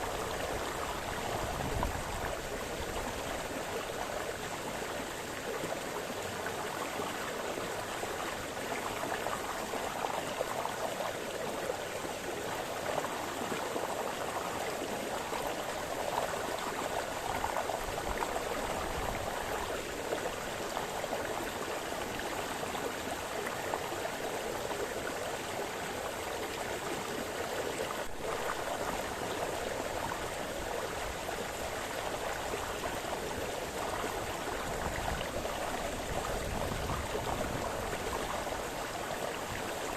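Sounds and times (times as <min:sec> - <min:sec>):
brook burbling over stones: 0:00.0 - 0:39.9.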